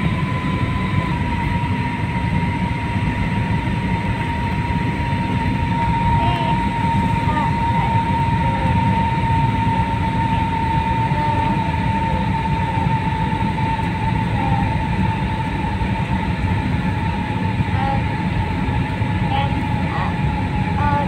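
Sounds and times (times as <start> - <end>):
engine and airflow rumble: 0.0 - 21.0
thin steady whine: 0.0 - 21.0.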